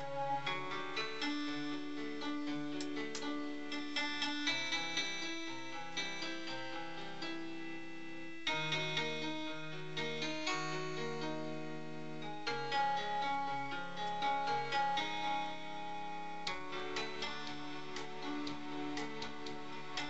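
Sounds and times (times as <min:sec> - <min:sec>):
instrumental keyboard music: 0:00.0 - 0:20.0.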